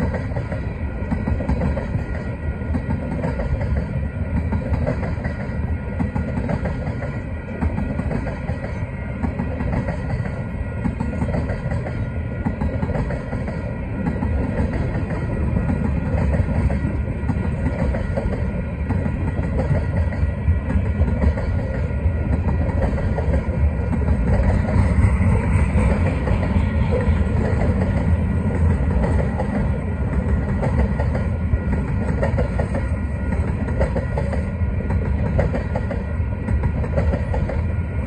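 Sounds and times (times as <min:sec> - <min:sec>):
freight train wheels on rails: 0:00.0 - 0:38.0.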